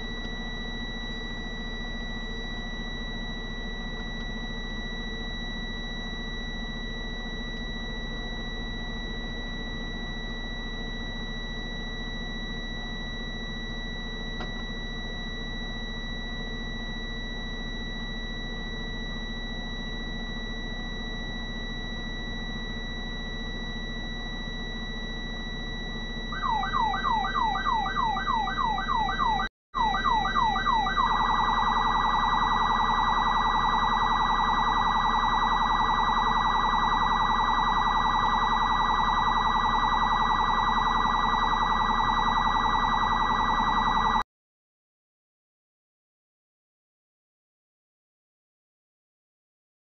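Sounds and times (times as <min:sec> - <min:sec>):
high-pitched whine: 0:00.0 - 0:44.2
low hum: 0:00.0 - 0:44.2
police siren: 0:00.0 - 0:44.2.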